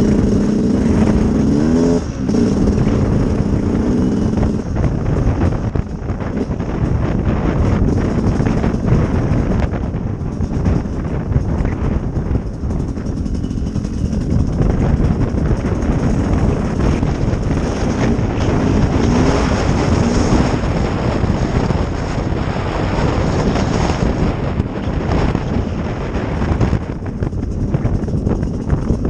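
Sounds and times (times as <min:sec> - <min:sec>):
motorbike engine running: 0:00.0 - 0:29.0
wind buffeting microphone: 0:00.0 - 0:29.0.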